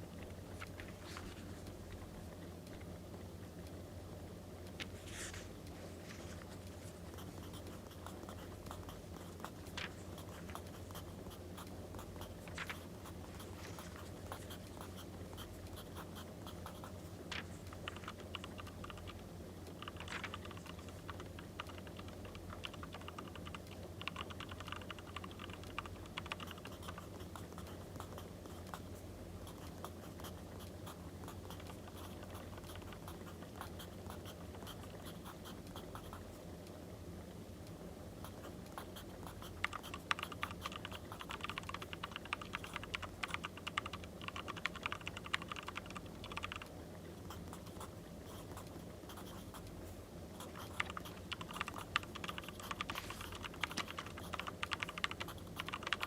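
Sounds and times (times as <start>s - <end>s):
small clicks and crackles: 0.0s - 3.8s, 4.5s - 36.8s, 37.6s - 49.8s, 50.4s - 56.0s
steady low hum: 0.0s - 56.0s.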